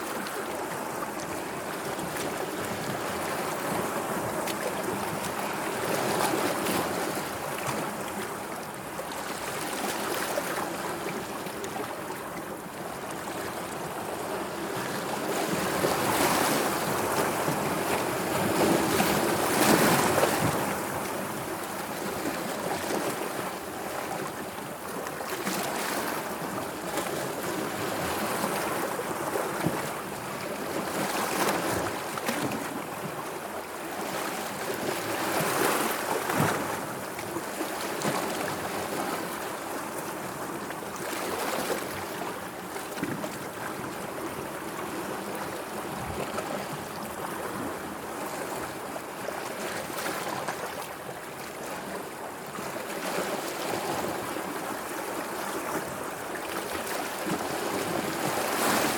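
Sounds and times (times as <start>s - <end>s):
sea waves washing and lapping: 0.0s - 58.9s.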